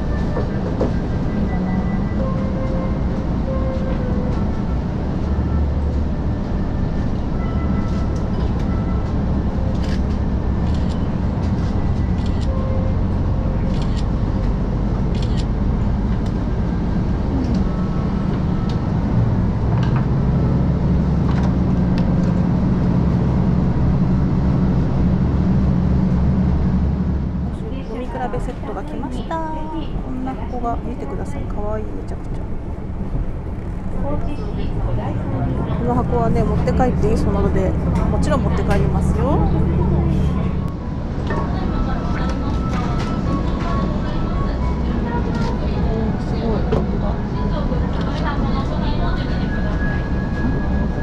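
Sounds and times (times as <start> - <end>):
diesel railcar engine drone: 0.0 - 51.0.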